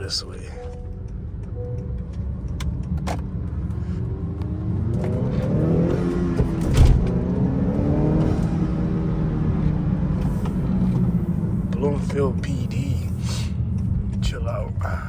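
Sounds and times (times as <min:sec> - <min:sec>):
car engine accelerating: 0:00.7 - 0:15.0.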